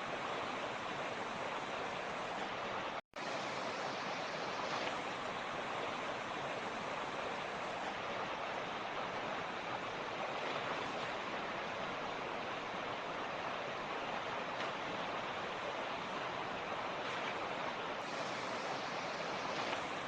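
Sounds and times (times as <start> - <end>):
water flowing over stones: 0.0 - 20.0.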